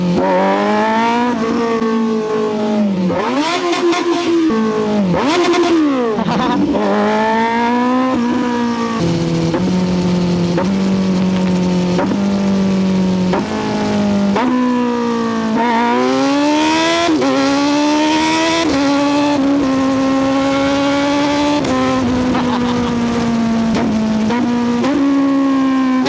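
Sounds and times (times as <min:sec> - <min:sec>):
motorcycle engine revving hard: 0:00.0 - 0:26.0.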